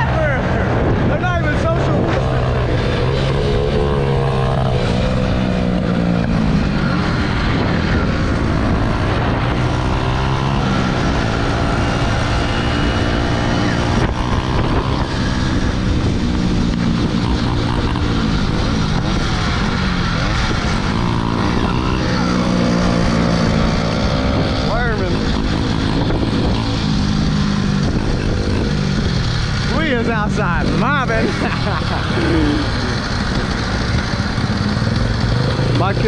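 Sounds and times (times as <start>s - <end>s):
small motorbike engine running: 1.6s - 36.0s.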